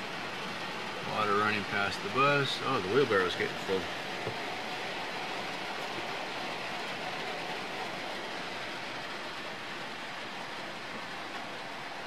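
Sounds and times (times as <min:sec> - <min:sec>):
heavy rain on a metal roof: 0:00.0 - 0:12.0.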